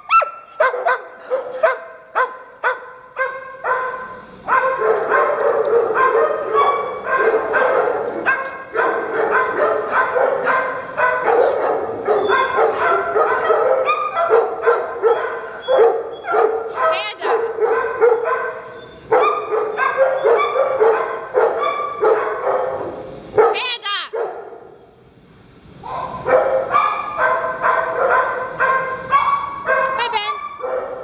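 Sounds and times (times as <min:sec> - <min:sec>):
dogs barking: 0:00.0 - 0:24.8, 0:25.8 - 0:31.0.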